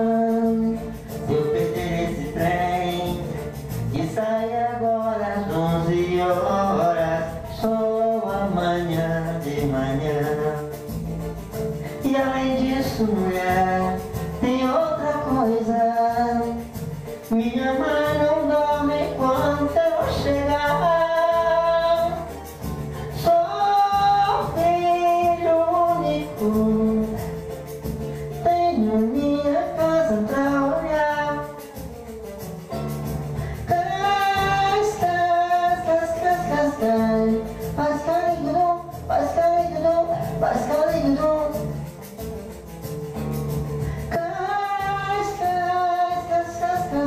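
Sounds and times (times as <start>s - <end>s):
instrumental accompaniment: 0.0s - 47.0s
man singing samba: 0.0s - 47.0s.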